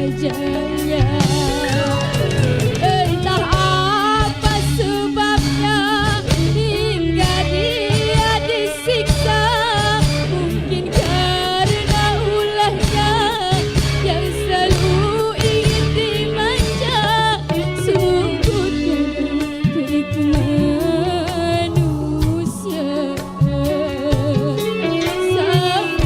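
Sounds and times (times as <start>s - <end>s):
live band accompaniment: 0.0s - 26.0s
woman singing with vibrato: 0.0s - 26.0s.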